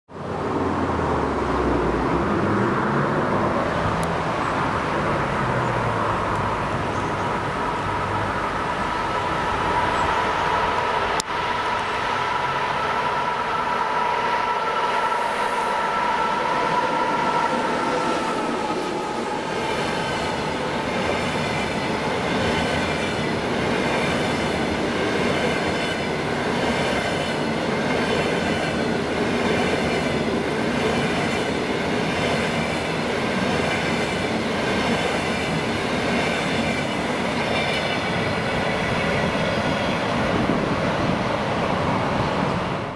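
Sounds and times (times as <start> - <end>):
train wheels rumbling on rail: 0.1 - 42.9
electric locomotive whine: 0.2 - 42.9.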